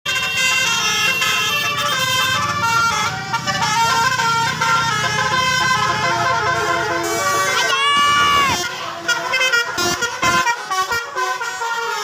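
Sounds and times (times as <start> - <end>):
bus musical air horn tune: 0.0 - 12.0.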